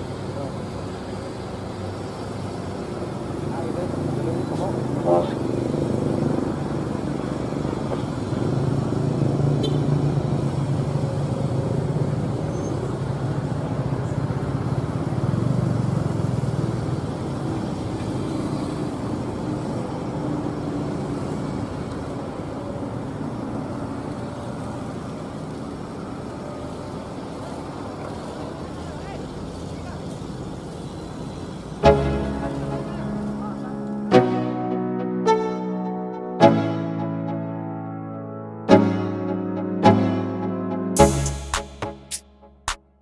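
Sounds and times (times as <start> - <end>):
diesel machinery engine running: 0.0 - 42.6.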